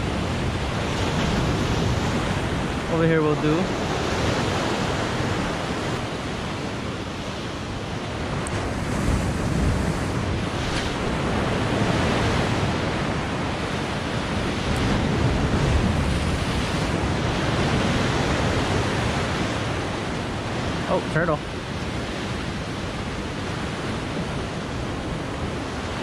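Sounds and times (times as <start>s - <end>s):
ocean surf breaking on rocks: 0.0s - 26.0s
wind rumbling on microphone: 0.0s - 26.0s.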